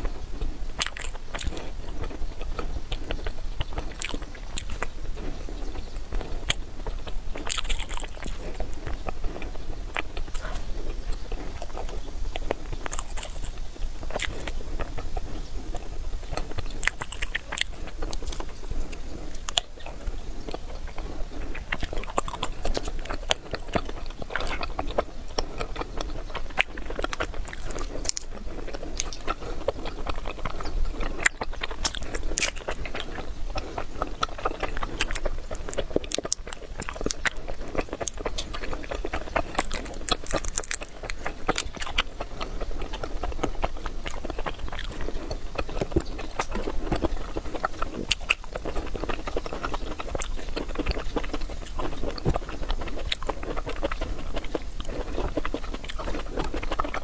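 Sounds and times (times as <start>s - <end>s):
chewing candy: 0.0s - 57.0s
mouth clicks: 0.0s - 57.0s.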